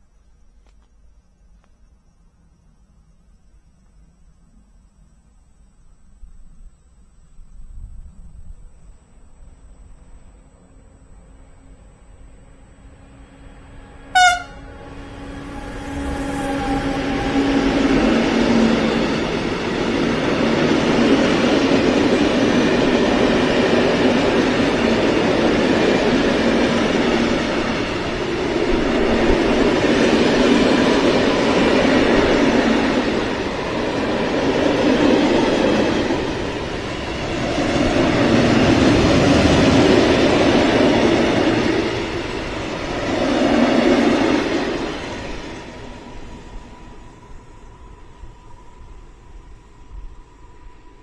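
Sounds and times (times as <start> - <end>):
freight train wheels rumbling on rails: 9.6 - 51.0.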